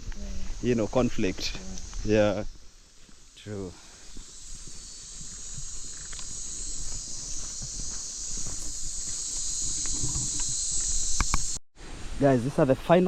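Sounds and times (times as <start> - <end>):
footsteps on forest trail: 0.0 - 11.6
high-pitched insect chorus: 0.0 - 13.0.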